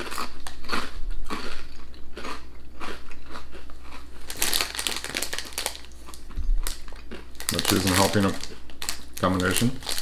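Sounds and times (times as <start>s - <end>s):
crisps being chewed: 0.0s - 10.0s.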